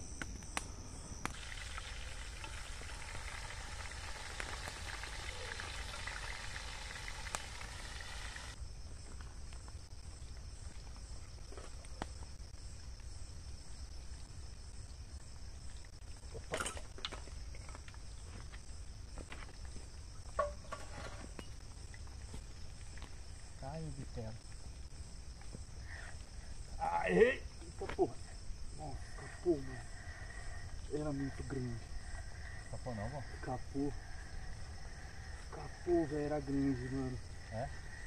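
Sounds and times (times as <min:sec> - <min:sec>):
crackling hiss: 0:00.0 - 0:38.0
crickets chirring: 0:00.0 - 0:38.0.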